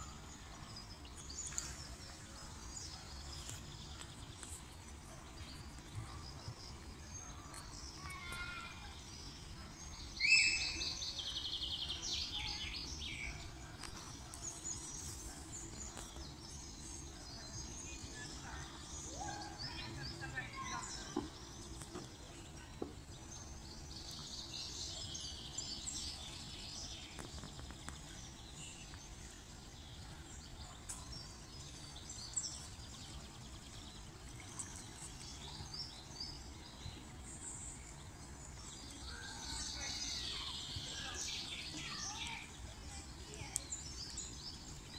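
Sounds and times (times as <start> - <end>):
small birds chirping: 0.0 - 44.9
songbird singing: 0.0 - 44.9.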